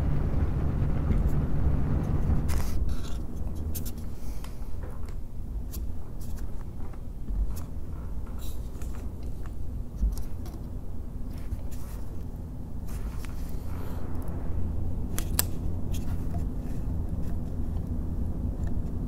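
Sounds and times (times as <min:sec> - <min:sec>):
fans airflow rumble on microphone: 0:00.0 - 0:19.0
clicks and scrapes of handling fans: 0:02.1 - 0:14.4, 0:15.1 - 0:19.0.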